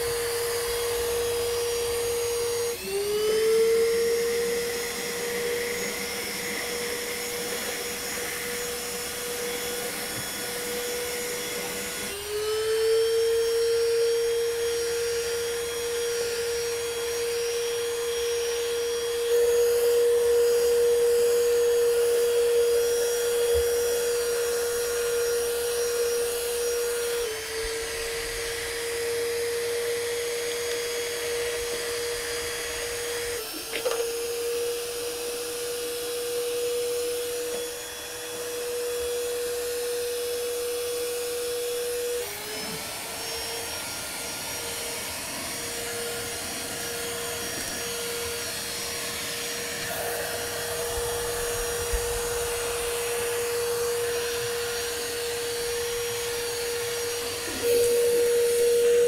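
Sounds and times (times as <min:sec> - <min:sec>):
handheld vacuum whining: 0:00.0 - 0:59.0.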